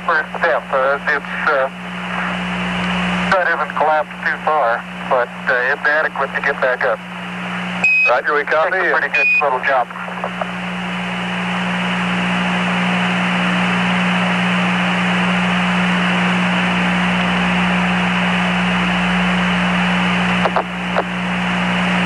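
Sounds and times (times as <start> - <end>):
low steady hum: 0.0 - 22.0
radio static hiss: 0.0 - 22.0.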